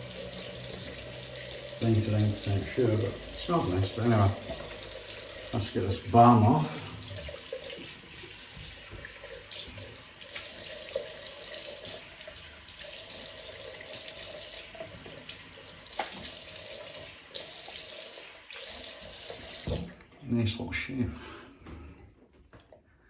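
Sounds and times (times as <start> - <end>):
tap water running into sink: 0.0 - 20.2.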